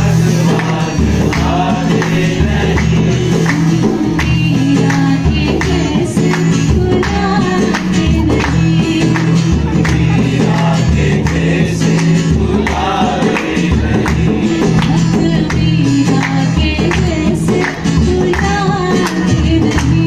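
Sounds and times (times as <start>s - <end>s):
hand percussion strokes: 0.0s - 20.0s
person singing: 0.0s - 20.0s
steady bass line: 0.0s - 20.0s.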